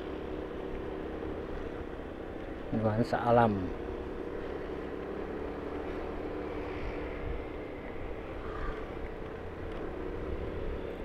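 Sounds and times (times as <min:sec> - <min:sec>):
road noise: 0:00.0 - 0:11.0
vehicle engine humming: 0:00.0 - 0:11.0.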